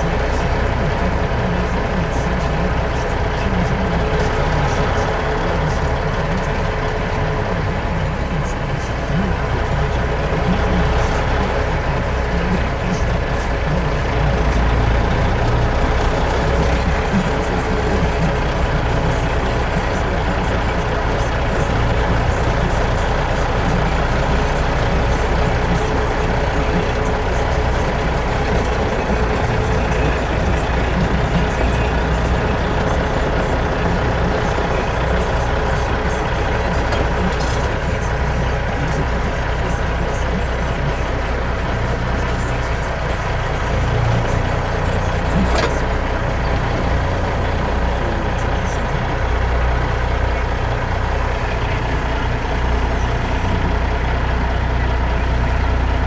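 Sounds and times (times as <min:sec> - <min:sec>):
heavy vehicle engine drone: 0:00.0 - 0:56.0.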